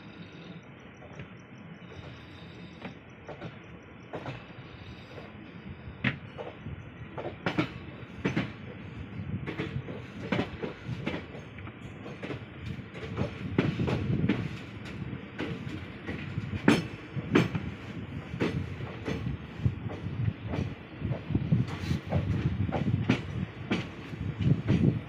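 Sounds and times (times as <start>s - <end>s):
train wheel rumble: 0.0s - 25.0s
wheels clacking on rail joints: 0.0s - 25.0s.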